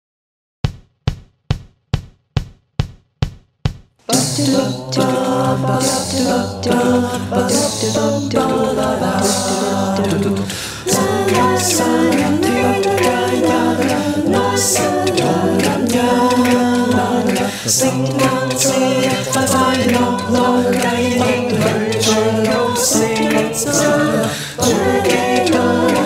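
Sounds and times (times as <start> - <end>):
choir singing in harmony: 4.1 - 26.0.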